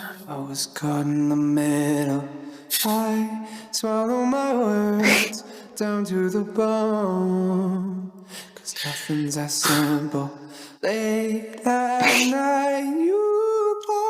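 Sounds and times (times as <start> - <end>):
slow song with sung vocals: 0.0 - 14.0.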